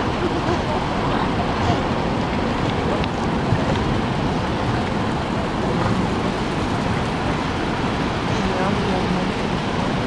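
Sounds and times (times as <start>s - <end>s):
surf on shore: 0.0s - 10.0s
wind buffeting microphone: 0.0s - 10.0s.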